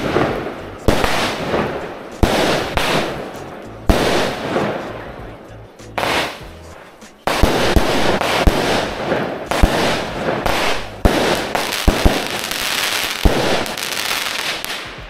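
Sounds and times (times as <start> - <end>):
firework bangs: 0.0 - 15.0
fireworks crackling volley: 0.0 - 15.0.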